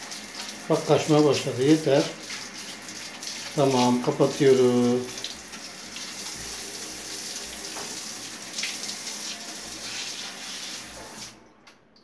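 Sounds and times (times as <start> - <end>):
shower water running: 0.0 - 11.4.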